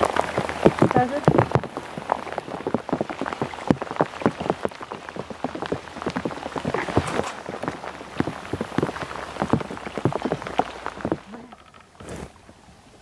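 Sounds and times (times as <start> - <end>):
drops tapping on raincoat: 0.0 - 12.3
rain falling: 0.0 - 13.0.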